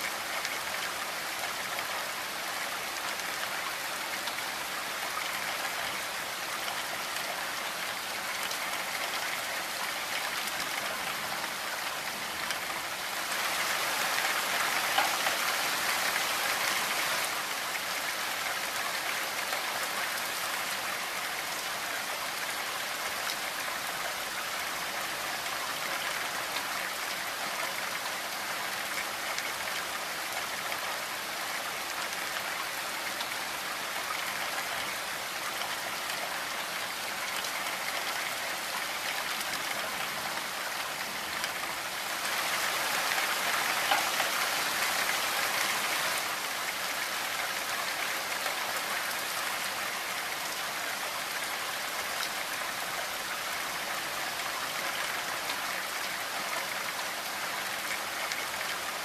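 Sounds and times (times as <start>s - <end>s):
rain on a window and roof: 0.0s - 59.0s.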